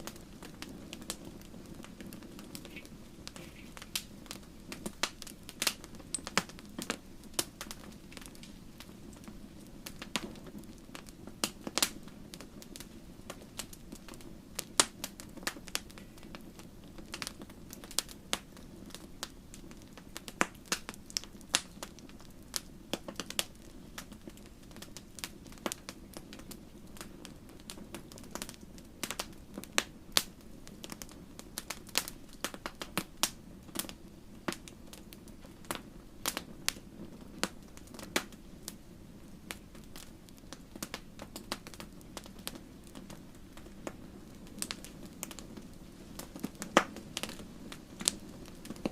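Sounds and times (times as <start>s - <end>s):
low rumble of burning fire: 0.0s - 48.9s
wood fire crackling and popping: 0.0s - 48.9s.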